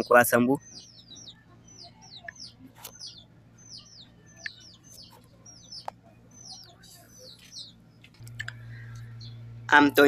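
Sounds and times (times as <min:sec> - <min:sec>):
birds chirping faintly: 0:00.0 - 0:10.0
low steady hum: 0:00.0 - 0:10.0.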